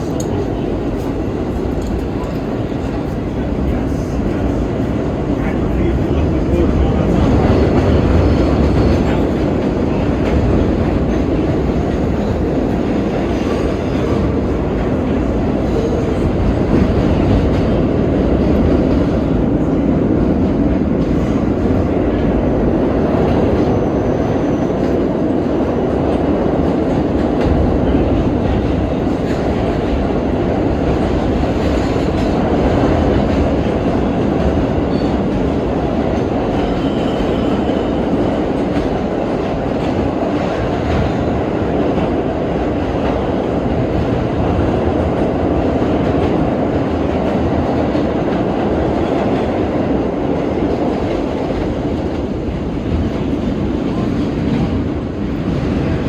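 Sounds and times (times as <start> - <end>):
subway train wheels rumbling: 0.0 - 56.0.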